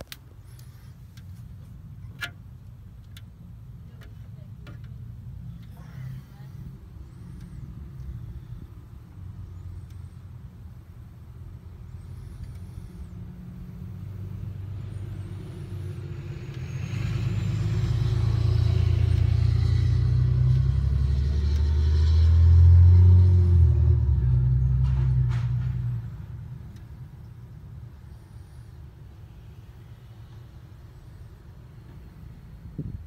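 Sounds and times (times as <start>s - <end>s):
vehicle engine running: 0.0s - 29.5s.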